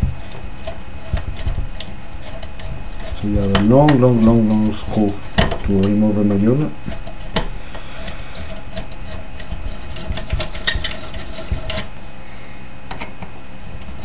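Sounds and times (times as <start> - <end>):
screwdriver scraping on metal: 0.0 - 11.9, 13.6 - 14.0.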